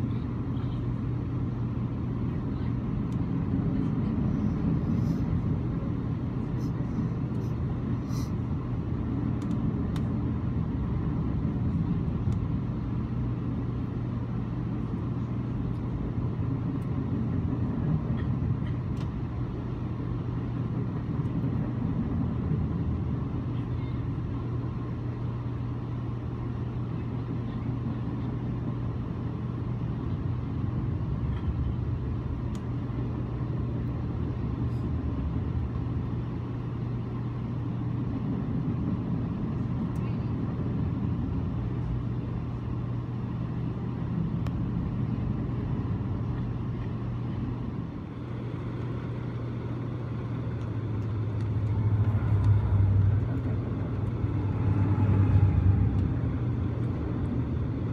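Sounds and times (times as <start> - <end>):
constant low hum: 0.0 - 57.9
train rumble: 0.0 - 57.9.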